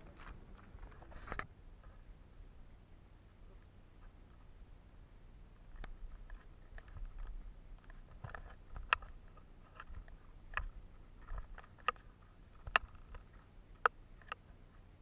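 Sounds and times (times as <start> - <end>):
faint low rumble: 0.0 - 15.0.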